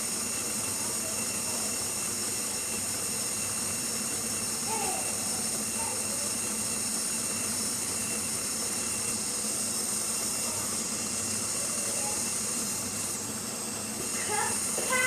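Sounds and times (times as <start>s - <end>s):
electric mixer beating batter: 0.0s - 15.0s.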